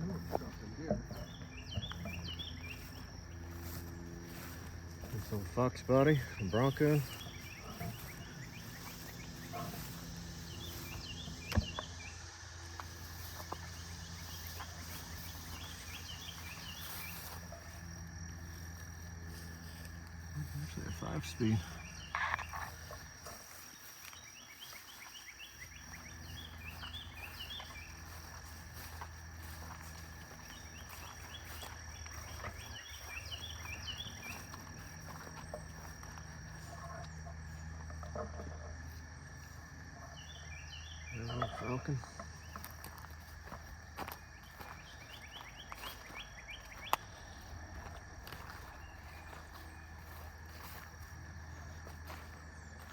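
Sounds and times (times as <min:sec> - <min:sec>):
insect drone: 0:00.0 - 0:52.9
small birds chirping: 0:00.0 - 0:52.9.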